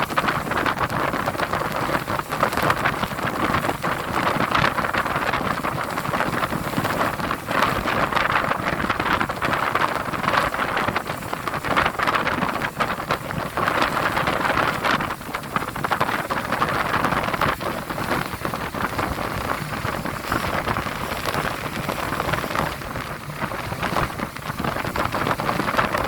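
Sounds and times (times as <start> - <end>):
rough sea roaring: 0.0 - 26.0
wind: 0.0 - 26.0.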